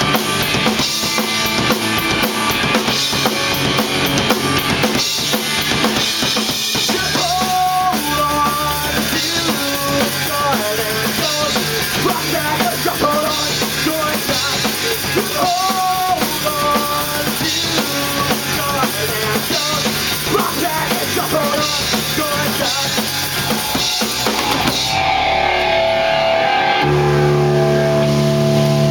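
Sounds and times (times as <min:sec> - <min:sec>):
bass guitar: 0:00.0 - 0:28.9
drum kit: 0:00.0 - 0:28.9
electric guitar: 0:00.0 - 0:28.9.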